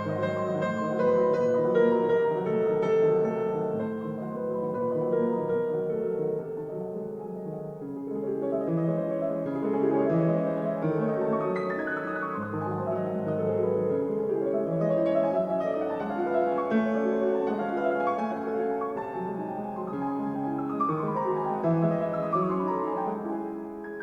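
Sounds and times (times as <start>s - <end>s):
piano music through speakers: 0.0s - 24.0s.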